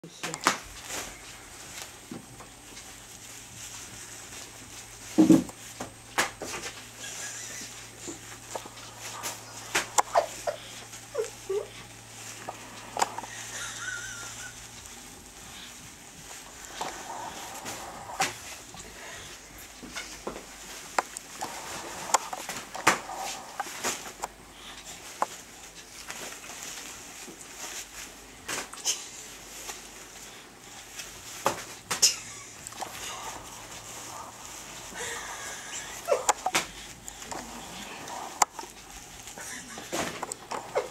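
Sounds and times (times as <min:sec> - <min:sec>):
diaper crinkling and crackling: 0:00.3 - 0:40.9.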